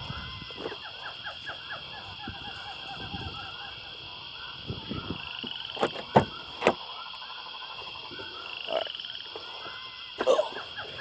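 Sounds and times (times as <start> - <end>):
high repeated animal calls: 0.0 - 11.0.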